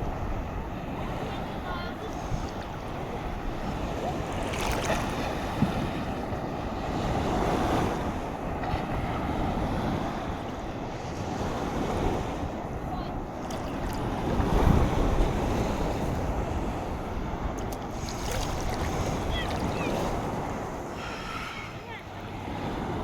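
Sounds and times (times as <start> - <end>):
sea surf washing in: 0.0 - 23.0
wind buffeting microphone: 0.0 - 23.0.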